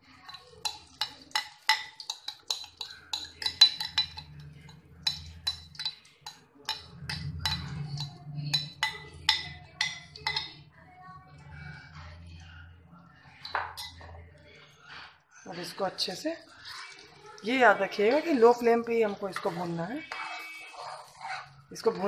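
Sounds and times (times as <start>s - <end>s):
spoon clinking and scraping bowl: 0.0s - 10.6s, 13.3s - 14.1s, 15.5s - 22.0s.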